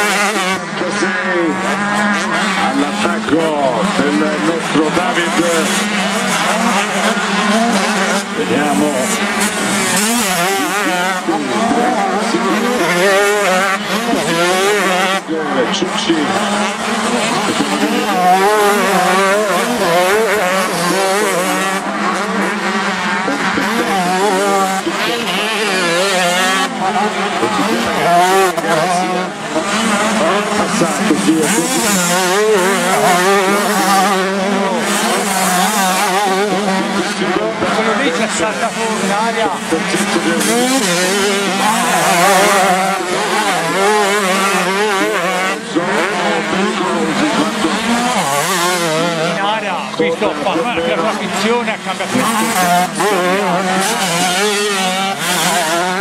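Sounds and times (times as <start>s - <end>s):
motocross bikes racing: 0.0s - 56.0s.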